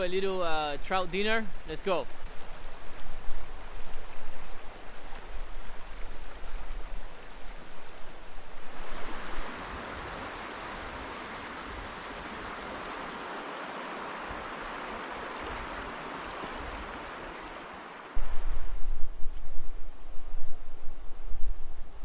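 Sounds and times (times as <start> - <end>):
rushing river water: 0.0 - 18.8.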